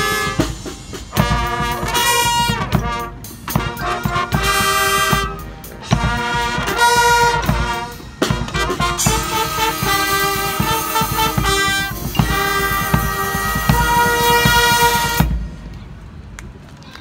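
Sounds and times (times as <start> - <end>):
drum hits: 0.0 - 15.6
marching band brass playing: 0.0 - 15.7.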